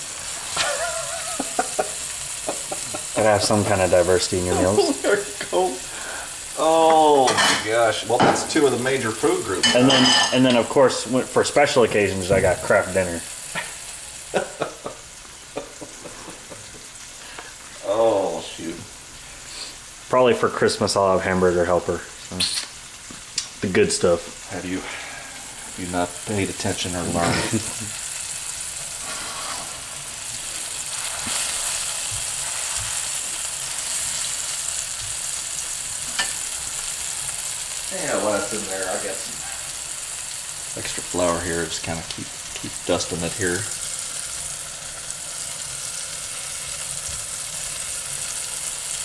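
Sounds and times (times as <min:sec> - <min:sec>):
steaks sizzling in oil: 0:00.0 - 0:49.0.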